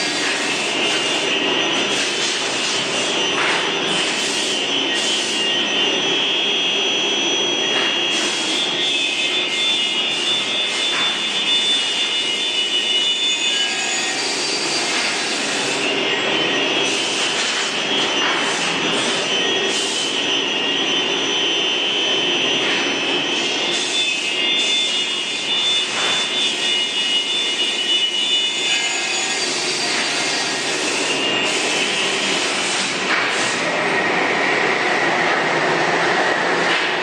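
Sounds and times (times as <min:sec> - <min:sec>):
router high whine: 0:00.0 - 0:37.0.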